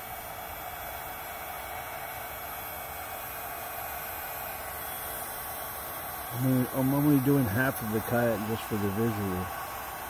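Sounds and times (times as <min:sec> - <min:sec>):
faint electric hum: 0:00.0 - 0:10.0
heat gun blowing air: 0:00.0 - 0:10.0.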